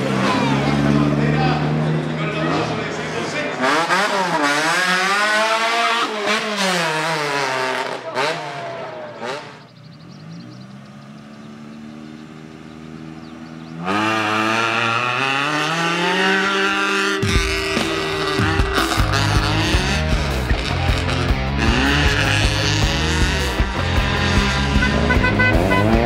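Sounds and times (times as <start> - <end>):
rally car launching at full throttle: 0.0 - 9.7, 13.7 - 26.0
rally car engine revving: 0.0 - 26.0
rally car idling: 0.0 - 26.0.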